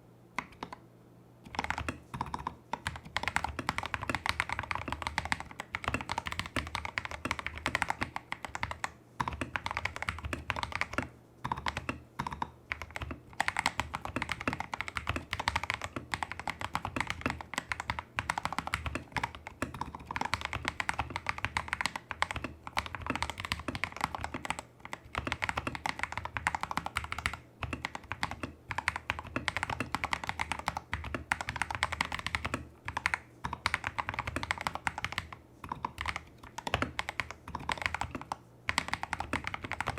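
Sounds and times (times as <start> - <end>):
fast typing on mechanical keyboard: 0.4 - 0.8, 1.5 - 39.9.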